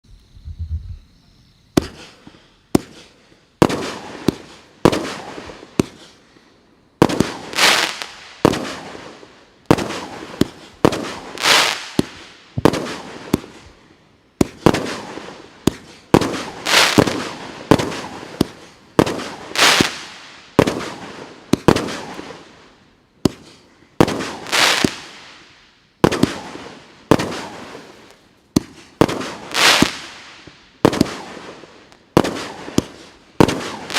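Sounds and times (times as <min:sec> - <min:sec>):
fireworks bangs: 0:01.7 - 0:06.2, 0:07.0 - 0:13.8, 0:14.4 - 0:33.9.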